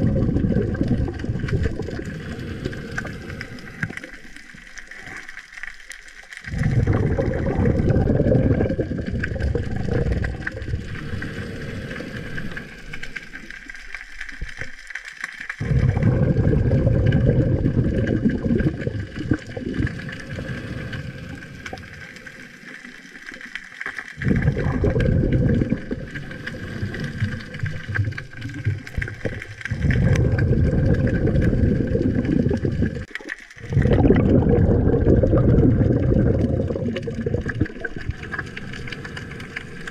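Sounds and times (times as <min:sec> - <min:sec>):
underwater low rumbling bursts: 0:00.0 - 0:04.1, 0:06.5 - 0:13.0, 0:15.6 - 0:22.3, 0:24.2 - 0:39.9.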